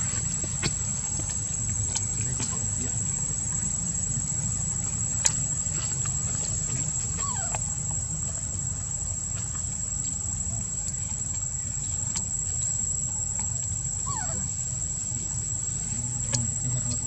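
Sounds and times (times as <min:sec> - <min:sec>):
insects droning: 0:00.0 - 0:17.0
steady low rumble: 0:00.0 - 0:17.0.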